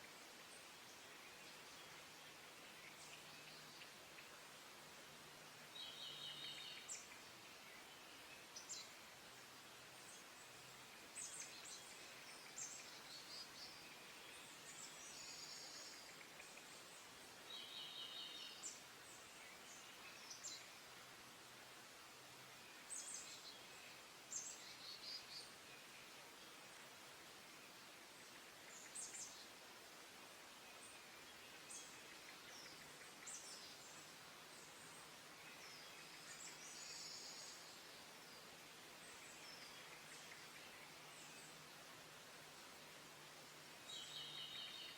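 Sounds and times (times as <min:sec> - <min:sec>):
small birds chirping: 0:00.0 - 0:44.9
steady background hiss: 0:00.0 - 0:44.9.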